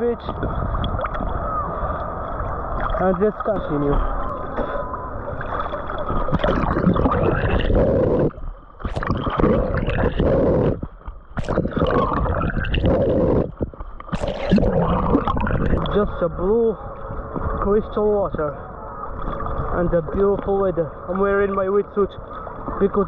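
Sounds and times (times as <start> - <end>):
water splashing from swimming: 0.0 - 23.0.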